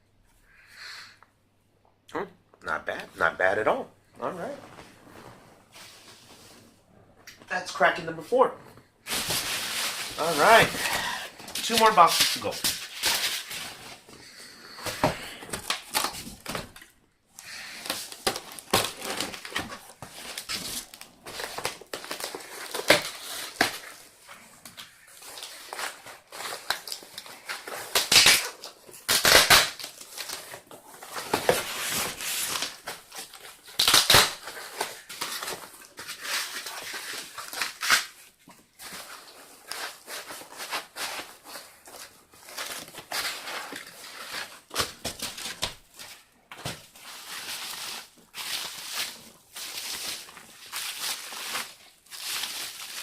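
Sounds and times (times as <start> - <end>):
packaging crinkling and rustling: 8.8 - 53.0.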